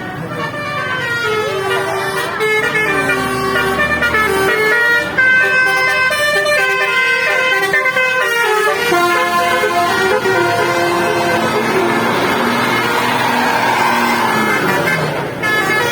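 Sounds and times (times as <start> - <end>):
musical horn melody: 0.2 - 15.9.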